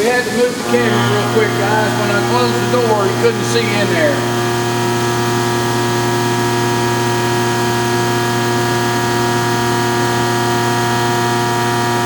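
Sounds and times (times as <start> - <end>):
coolant hissing: 0.0 - 12.0
machine whine and hum: 0.4 - 12.0.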